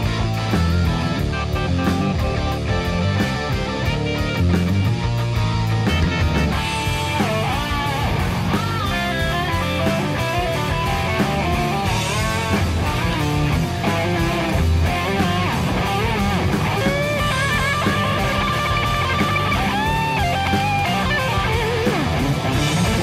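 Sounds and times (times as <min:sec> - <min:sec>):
rock music with electric guitar: 0:00.0 - 0:23.0.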